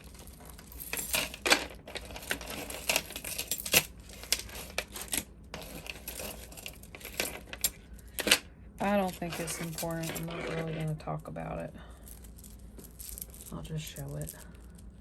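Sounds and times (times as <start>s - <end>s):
jewelry clinking and rattling: 0.0s - 15.0s.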